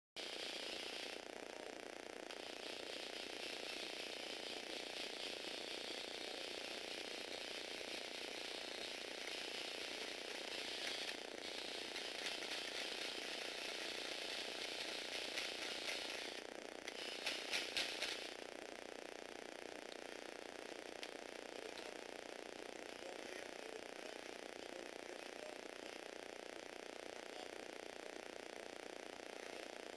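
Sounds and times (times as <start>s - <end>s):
small electric motor whirring: 0.2s - 29.9s.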